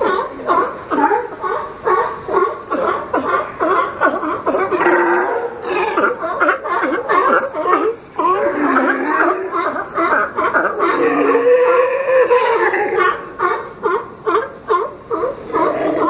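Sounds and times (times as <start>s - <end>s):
sea lions barking and grunting: 0.0s - 16.0s.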